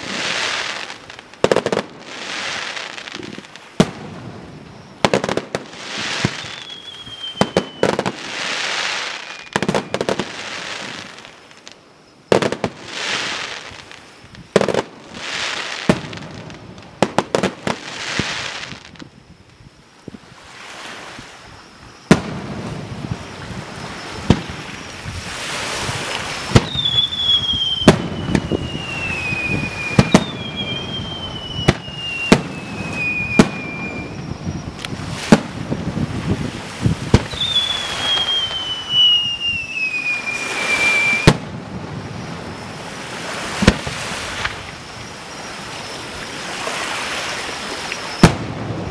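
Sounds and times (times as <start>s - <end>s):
firework crackling: 0.0s - 19.7s, 21.8s - 48.9s
falling firework whistles: 0.0s - 48.9s.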